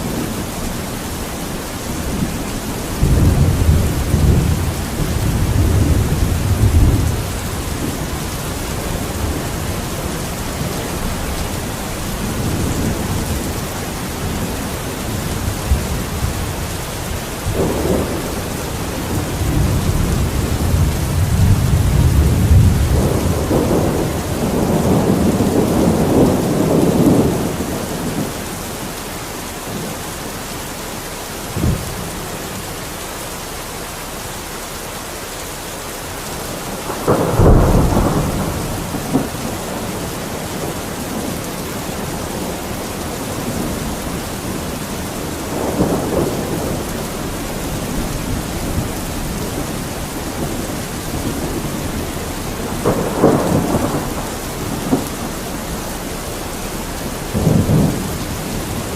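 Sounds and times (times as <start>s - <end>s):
rolling thunder: 0.0s - 29.0s, 31.5s - 32.6s, 36.4s - 58.9s
rain falling: 0.0s - 58.9s.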